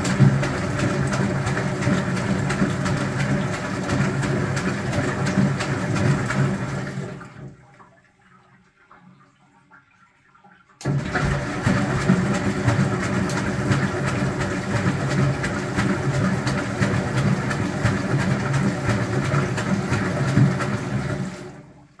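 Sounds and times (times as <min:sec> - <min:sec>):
washing machine motor humming: 0:00.0 - 0:07.6, 0:10.8 - 0:22.0
water sloshing in drum: 0:00.0 - 0:22.0.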